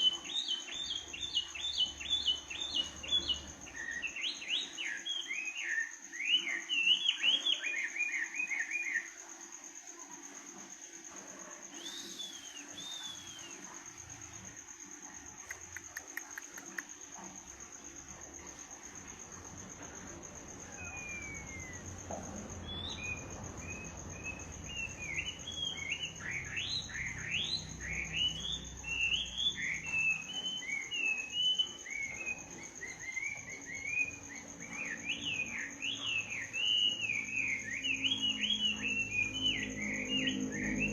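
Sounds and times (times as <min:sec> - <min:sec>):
bird chirping: 0:00.0 - 0:09.1, 0:11.5 - 0:17.9, 0:18.5 - 0:40.9
high-pitched insect trill: 0:00.0 - 0:40.9.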